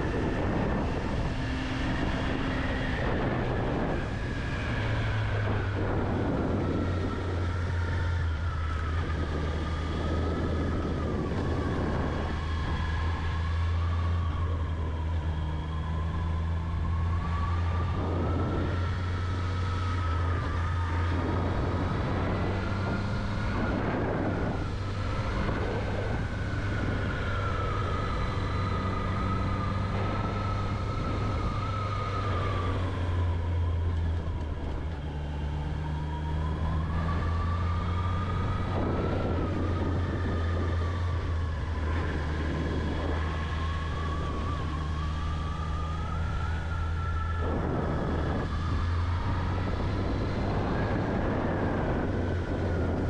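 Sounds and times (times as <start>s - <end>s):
wind rush: 0.0s - 53.0s.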